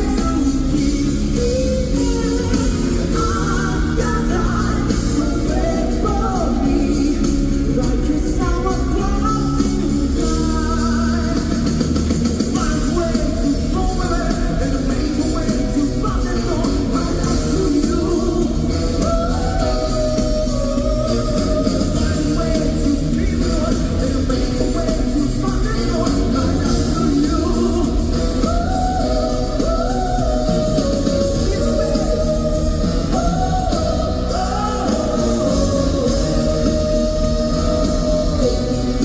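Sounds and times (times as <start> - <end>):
live funk rock band with singing: 0.0 - 39.0.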